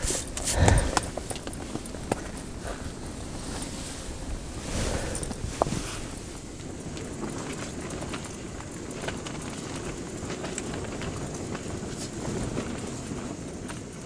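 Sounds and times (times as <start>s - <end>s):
light crackles and taps: 0.0s - 14.0s
wind buffeting tent fabric: 0.0s - 14.0s.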